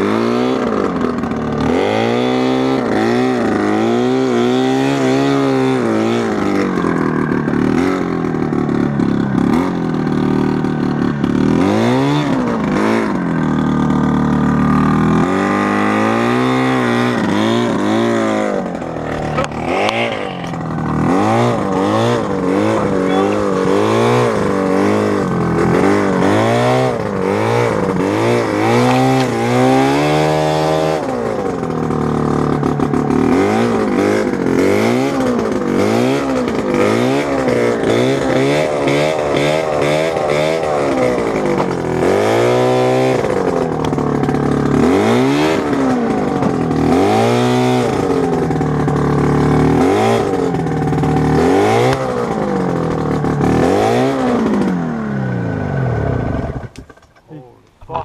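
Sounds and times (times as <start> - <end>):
sled forced through brush: 0.0 - 58.0
snowmobile engine revving: 0.0 - 58.0.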